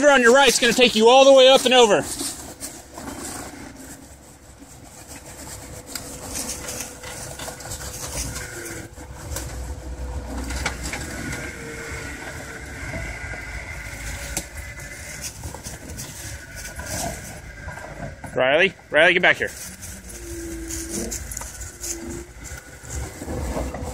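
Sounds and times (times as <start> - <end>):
off-road vehicle engine running: 0.0 - 23.9.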